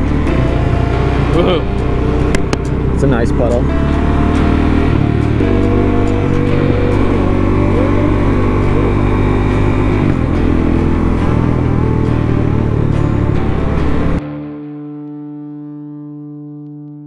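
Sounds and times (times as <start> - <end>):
motorcycle engine cruising: 0.0 - 14.2.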